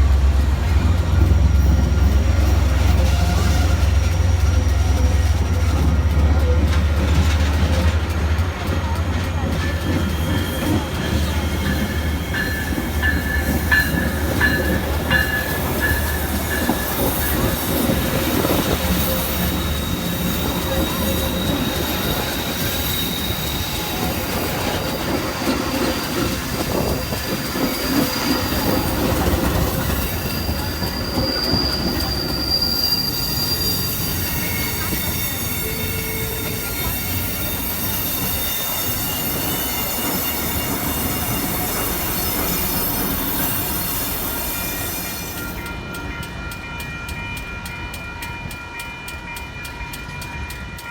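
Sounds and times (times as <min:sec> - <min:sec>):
steel wheels squealing on rails: 0:00.0 - 0:50.9
train cars rumbling and rattling: 0:00.0 - 0:50.9.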